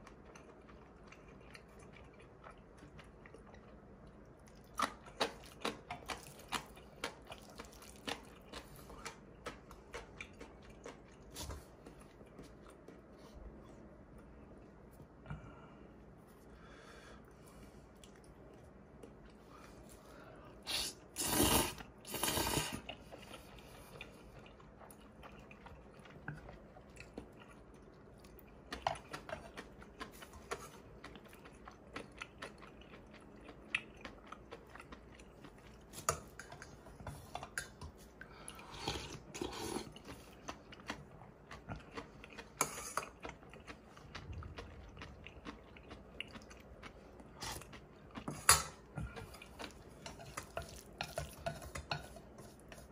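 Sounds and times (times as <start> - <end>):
person chewing crunchy food: 0.0 - 15.5, 16.1 - 52.9.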